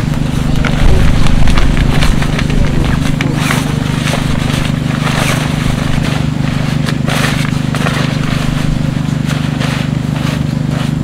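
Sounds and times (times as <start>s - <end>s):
nylon fabric rustling: 0.0s - 11.0s
steady low hum: 0.0s - 11.0s.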